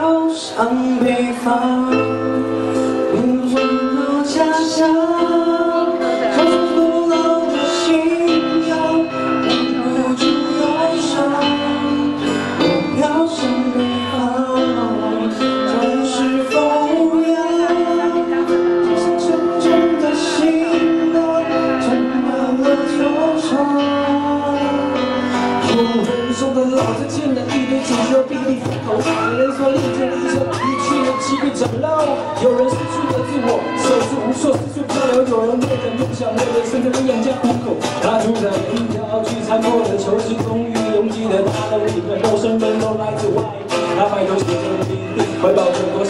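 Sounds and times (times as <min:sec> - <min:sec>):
live band music through speakers: 0:00.0 - 0:46.0
person singing: 0:00.0 - 0:46.0.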